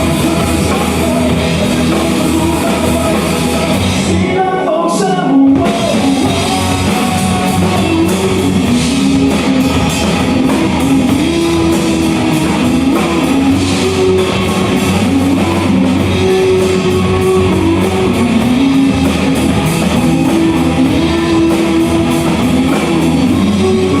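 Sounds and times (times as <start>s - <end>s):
drum kit beat: 0.0s - 24.0s
guitar melody: 0.0s - 24.0s
rock band playing: 0.0s - 24.0s.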